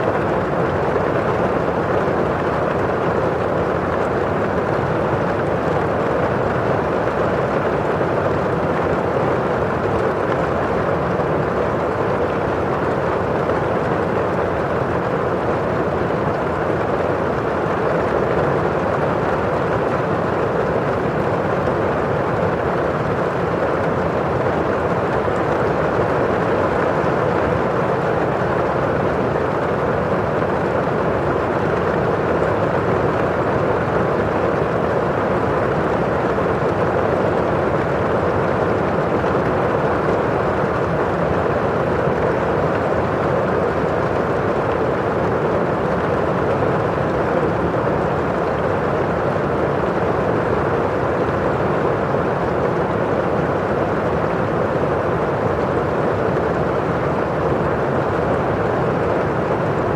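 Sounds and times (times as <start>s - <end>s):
rain on a windowpane: 0.0s - 59.9s.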